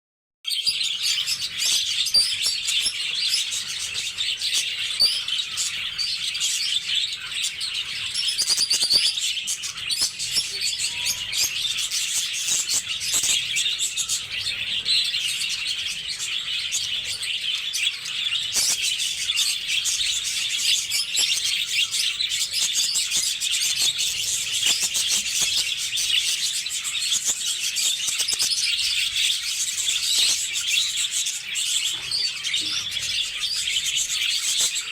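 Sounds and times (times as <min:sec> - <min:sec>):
lovebirds chirping and chattering: 0:00.5 - 0:34.9.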